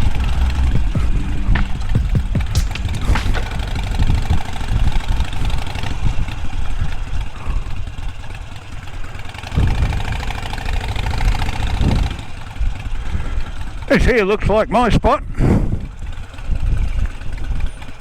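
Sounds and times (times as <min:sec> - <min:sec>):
motorcycle engine low rumble: 0:00.0 - 0:18.0.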